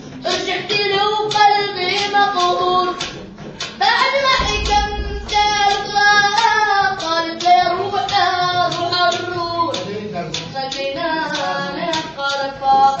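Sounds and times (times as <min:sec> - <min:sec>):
instrumental music with beat: 0:01.3 - 0:13.0.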